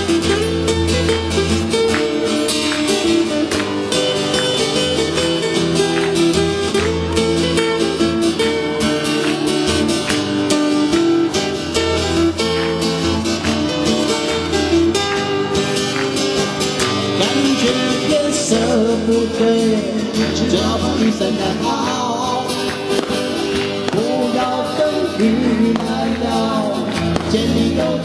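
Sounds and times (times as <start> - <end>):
acoustic guitars strumming: 0.0 - 28.0.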